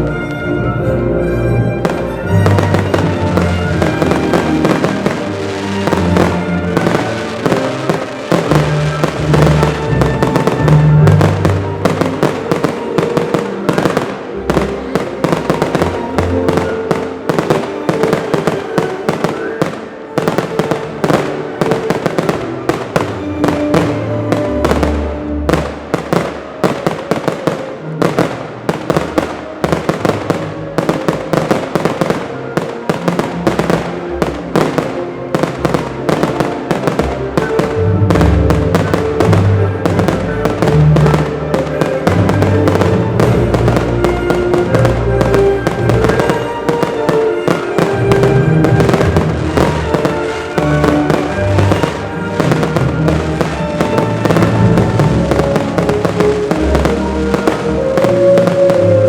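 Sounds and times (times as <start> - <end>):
fireworks bangs and crackling: 1.5 - 59.0.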